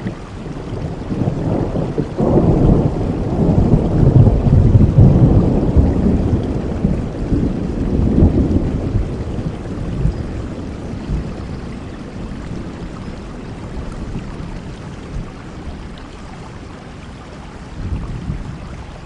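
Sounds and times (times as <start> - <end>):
rolling thunder: 0.0 - 16.0, 17.8 - 18.8
steady rainfall: 0.0 - 19.0.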